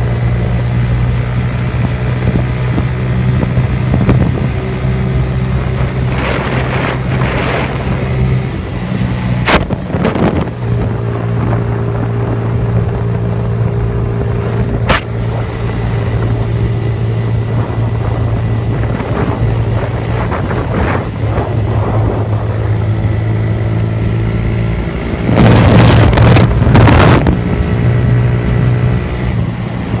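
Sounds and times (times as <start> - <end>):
motorcycle engine at speed: 0.0 - 30.0
rush of noise: 0.0 - 30.0
wind noise on microphone: 0.0 - 30.0.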